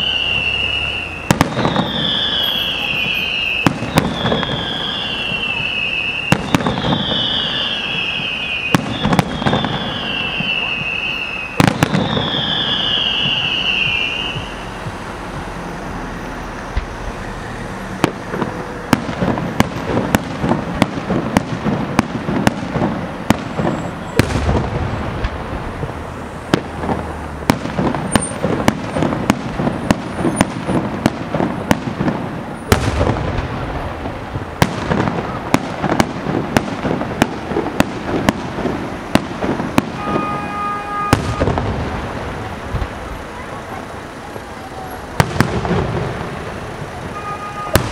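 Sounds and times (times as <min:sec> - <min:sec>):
heavy firework booms: 0:00.0 - 0:14.5, 0:18.0 - 0:43.1, 0:45.1 - 0:47.9
descending firework whistle: 0:00.0 - 0:26.8, 0:27.5 - 0:47.9
fireworks cracking and banging: 0:00.0 - 0:47.9.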